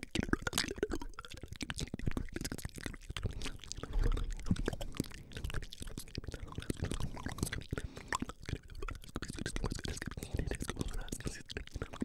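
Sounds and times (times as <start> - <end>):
wet mouth clicks: 0.0 - 12.0
soft whispering: 2.1 - 12.0.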